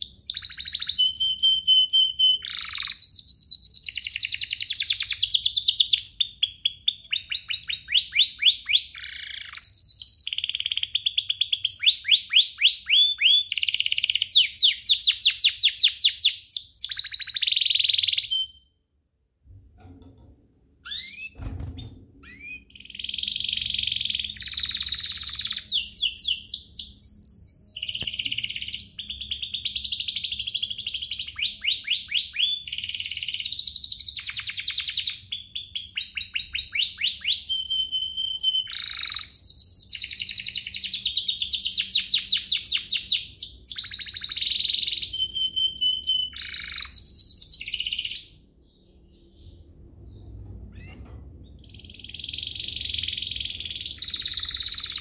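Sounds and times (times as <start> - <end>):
canary singing trills: 0.0 - 18.7, 20.8 - 55.0.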